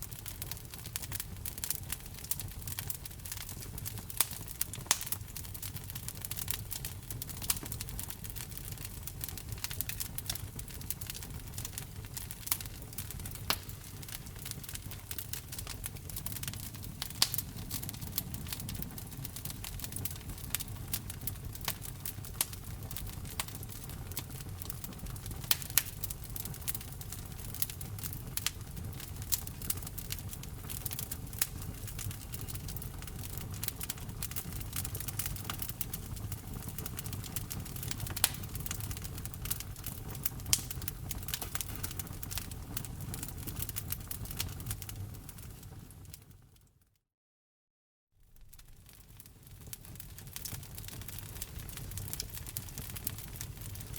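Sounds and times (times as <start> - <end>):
wood fire crackling: 0.0 - 46.4, 48.3 - 53.9
low rumble of flames: 0.0 - 46.5, 48.3 - 53.9.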